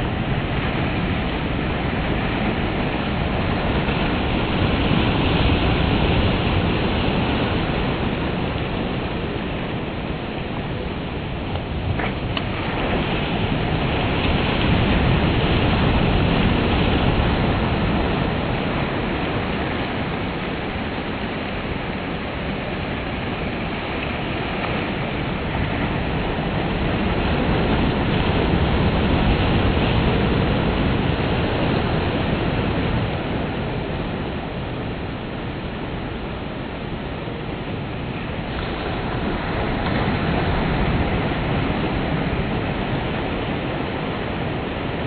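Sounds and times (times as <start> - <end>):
surf breaking on beach: 0.0 - 45.0.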